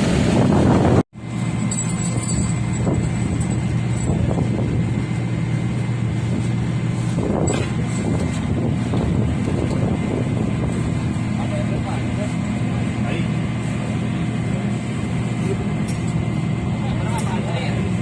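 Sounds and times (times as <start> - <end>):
turboprop aircraft engine droning: 0.0 - 18.0.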